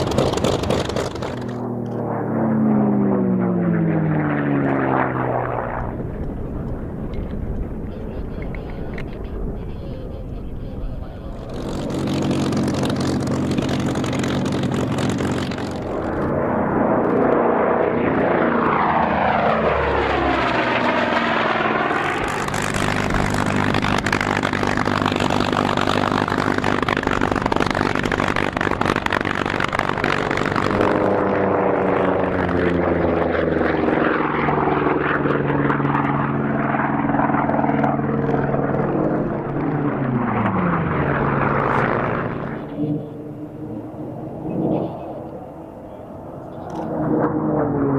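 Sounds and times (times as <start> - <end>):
racing planes passing by: 0.0 - 47.9.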